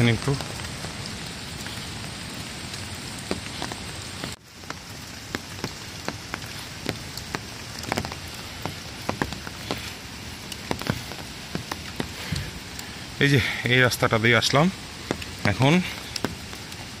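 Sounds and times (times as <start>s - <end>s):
rain falling in forest: 0.0s - 17.0s
raindrops ticking sharply: 0.0s - 17.0s.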